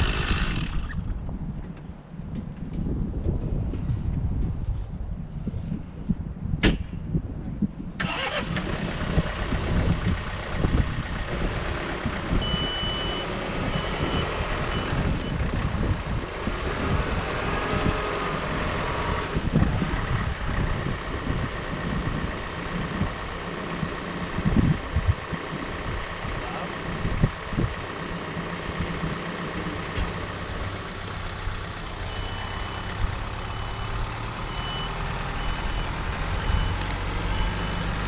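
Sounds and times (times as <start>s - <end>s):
machine engine rumbling: 0.0s - 4.7s, 7.4s - 38.0s.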